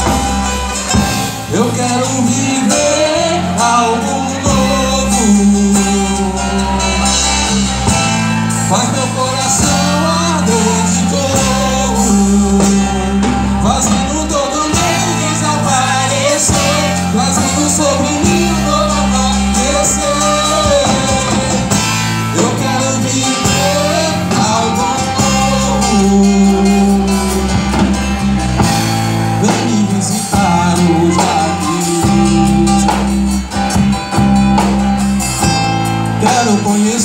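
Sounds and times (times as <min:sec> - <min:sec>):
people singing: 0:00.0 - 0:28.8, 0:29.4 - 0:33.8
drums: 0:00.0 - 0:37.0
guitar: 0:00.0 - 0:37.0
live band playing: 0:00.0 - 0:37.0
sustained bass notes: 0:00.0 - 0:37.0.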